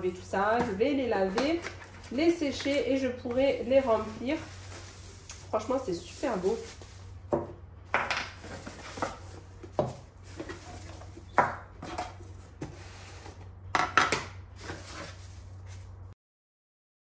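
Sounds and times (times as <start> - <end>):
bubble wrap and cardboard rustling: 0.0 - 7.4, 8.2 - 13.5, 14.4 - 16.1.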